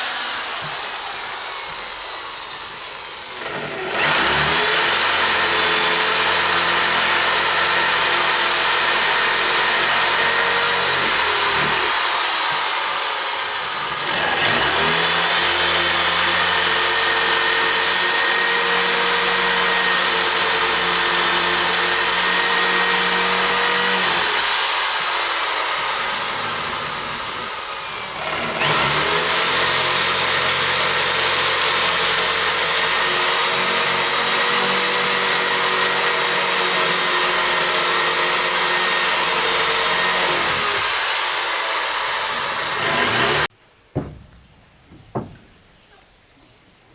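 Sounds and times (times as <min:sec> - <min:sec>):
power tool motor running: 0:00.0 - 0:44.2.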